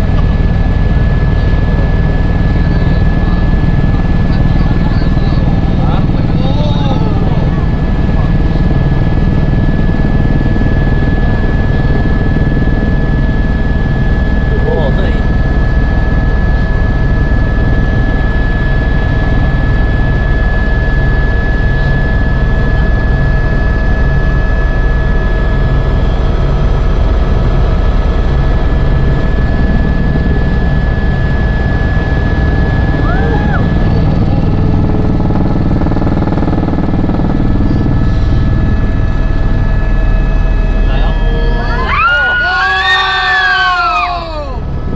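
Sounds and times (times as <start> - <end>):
helicopter rotor and engine drone: 0.0 - 44.9
high turbine whine: 0.0 - 44.9.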